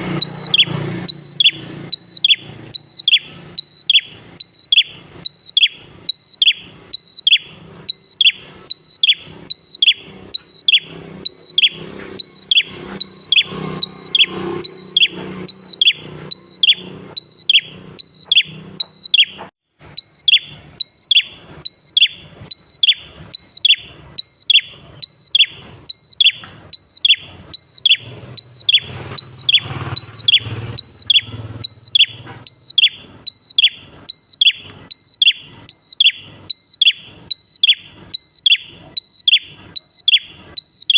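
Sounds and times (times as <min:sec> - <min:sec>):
bird repeated whistled call: 0:00.2 - 0:40.9.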